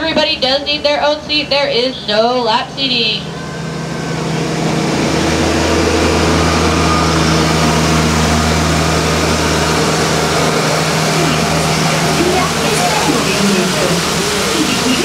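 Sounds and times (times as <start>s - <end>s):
tow tractor engine running: 0.0s - 15.0s.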